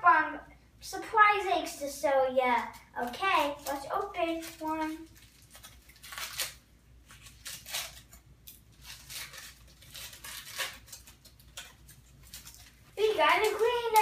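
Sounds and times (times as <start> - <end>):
foil wrapper crinkling and tearing: 2.6 - 14.0.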